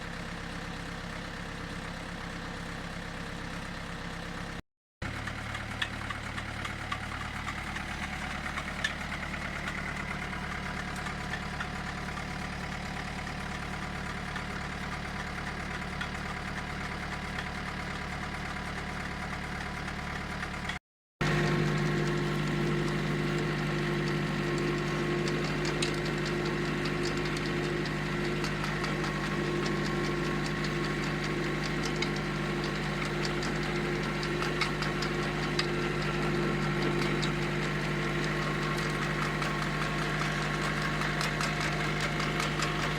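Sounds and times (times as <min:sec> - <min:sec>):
tractor engine running: 0:04.4 - 0:42.9.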